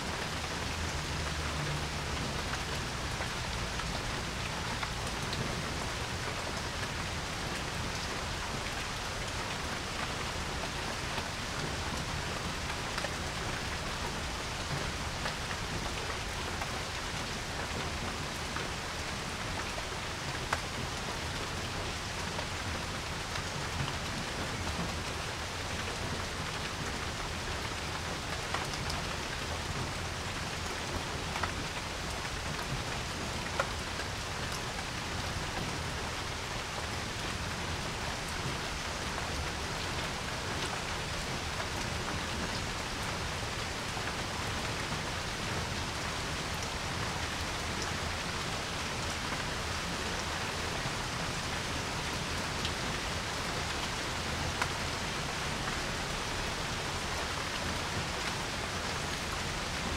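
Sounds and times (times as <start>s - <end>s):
rain falling on a porch: 0.0s - 59.9s.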